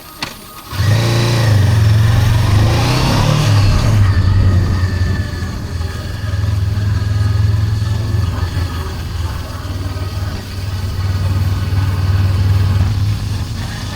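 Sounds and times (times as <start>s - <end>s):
motorcycle engine starting and idling: 0.0s - 13.9s.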